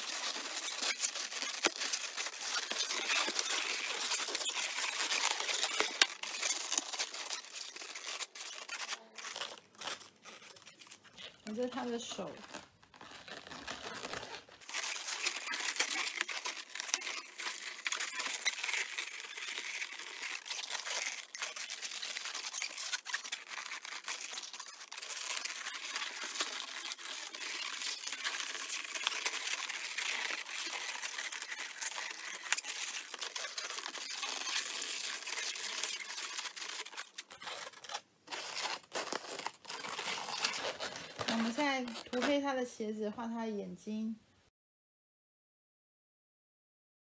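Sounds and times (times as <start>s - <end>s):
balloons rubbing and twisting: 0.0s - 42.7s.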